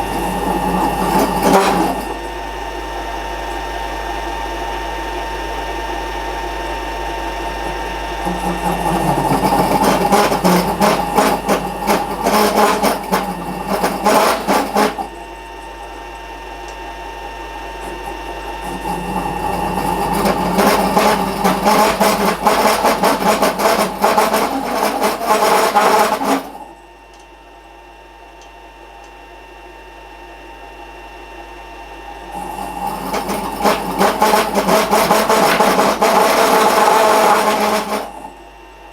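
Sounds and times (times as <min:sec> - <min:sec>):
workshop machine running: 0:00.0 - 0:38.9.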